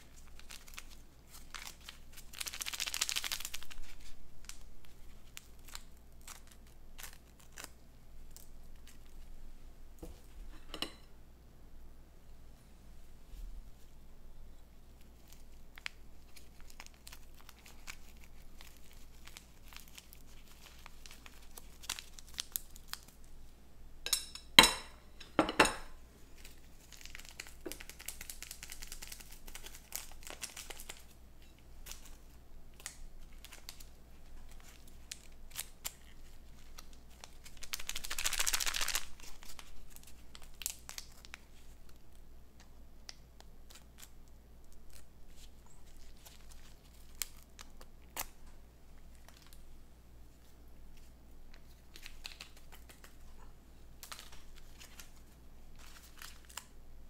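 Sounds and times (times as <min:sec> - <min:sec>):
packaging crinkling and tearing: 0:00.0 - 0:09.3, 0:15.0 - 0:23.3, 0:26.3 - 0:31.2, 0:31.8 - 0:49.7, 0:50.4 - 0:53.4, 0:54.0 - 0:56.8.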